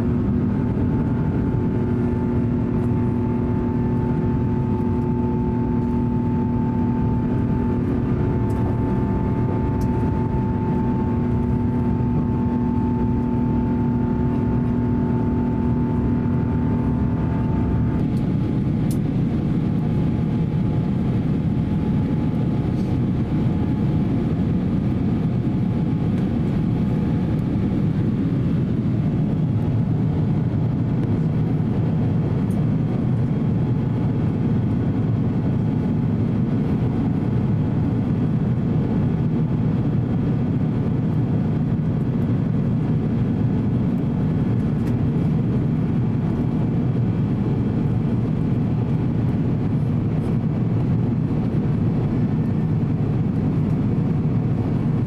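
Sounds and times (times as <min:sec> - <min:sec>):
airflow noise in cabin: 0:00.0 - 0:55.0
jet engine noise: 0:00.0 - 0:55.0.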